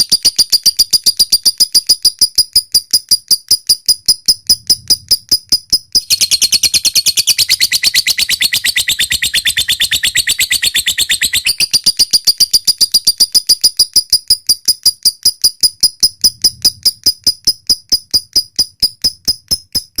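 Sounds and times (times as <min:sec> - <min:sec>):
lovebird ticking and chattering: 0:00.0 - 0:20.0.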